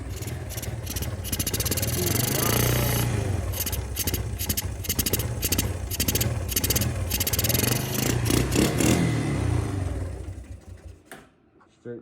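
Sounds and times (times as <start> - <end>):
small engine running under throttle: 0.0 - 10.9.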